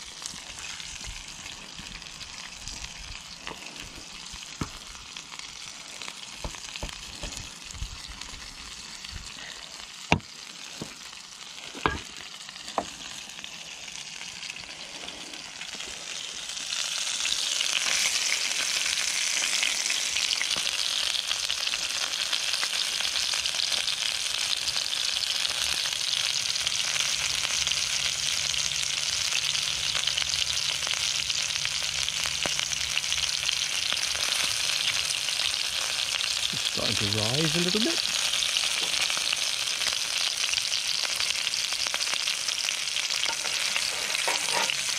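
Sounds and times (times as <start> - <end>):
food sizzling on a hot pan: 0.0 - 44.9.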